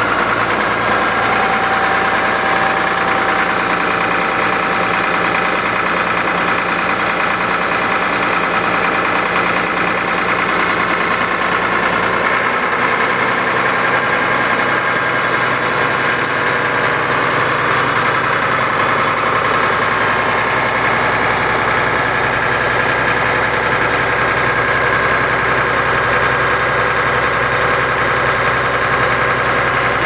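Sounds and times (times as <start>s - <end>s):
bulldozer diesel engine idling: 0.0s - 30.0s.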